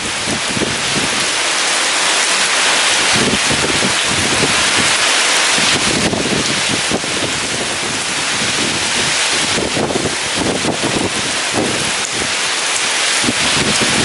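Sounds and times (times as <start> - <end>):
heavy rain pouring: 0.0 - 14.0
strong wind gusting: 0.0 - 14.0.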